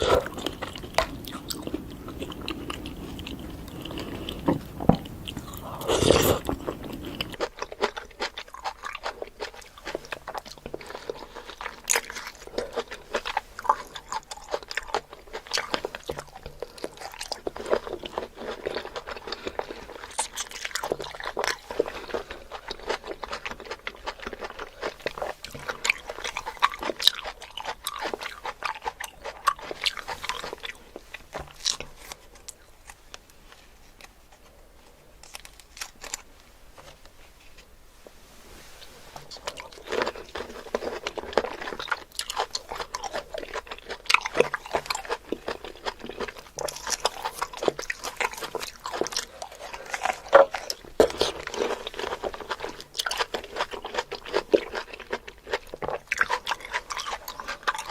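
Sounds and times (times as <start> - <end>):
crunchy biting and chewing fruit: 0.0 - 37.1, 38.8 - 57.9.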